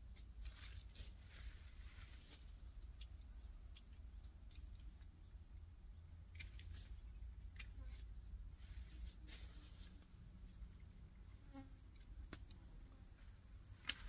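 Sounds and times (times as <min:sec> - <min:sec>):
high insect hum: 0:00.0 - 0:14.0.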